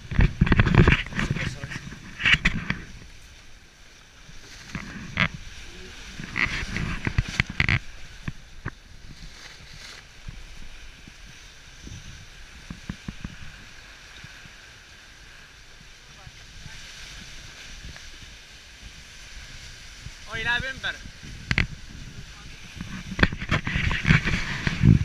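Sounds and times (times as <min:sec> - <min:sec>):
water rushing along boat hull: 0:00.0 - 0:25.0.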